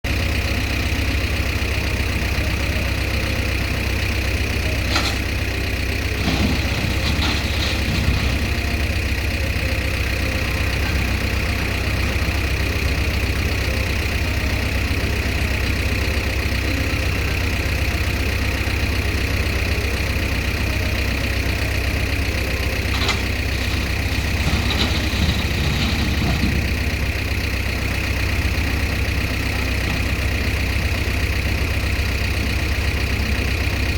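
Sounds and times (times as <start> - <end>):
diesel earthmoving machinery running: 0.0 - 33.9.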